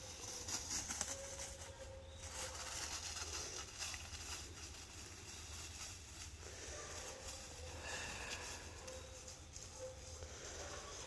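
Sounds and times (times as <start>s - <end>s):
rustling in dry leaves: 0.0s - 11.0s.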